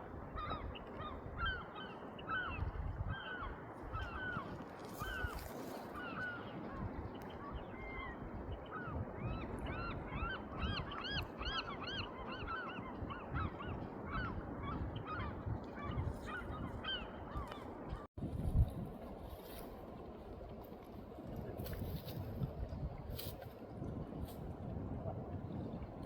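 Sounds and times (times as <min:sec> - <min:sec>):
low rumble of wind or water: 0:00.0 - 0:26.0.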